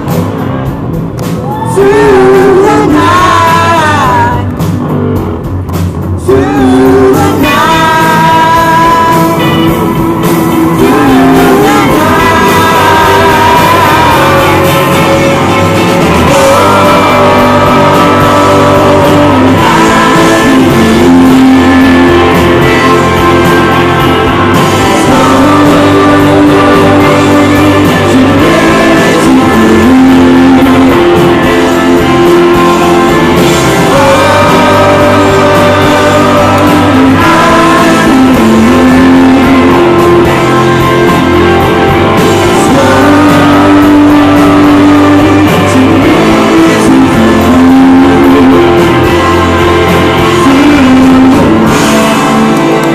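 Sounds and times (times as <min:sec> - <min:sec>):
electric guitar: 0:00.0 - 0:52.9
live rock band playing: 0:00.0 - 0:52.9.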